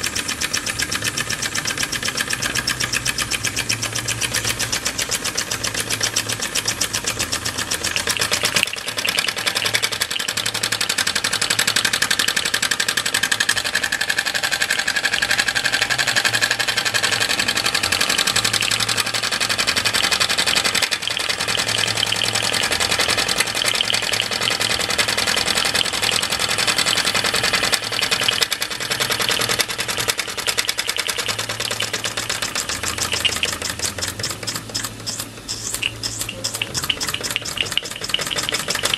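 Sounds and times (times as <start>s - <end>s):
toy steam engine chuffing: 0.0s - 38.9s.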